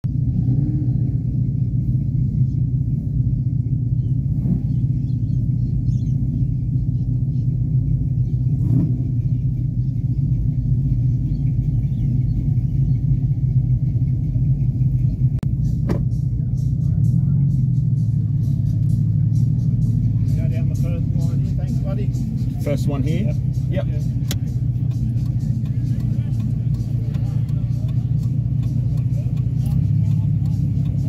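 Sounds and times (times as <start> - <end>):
car idling heard from inside: 0.0 - 31.0.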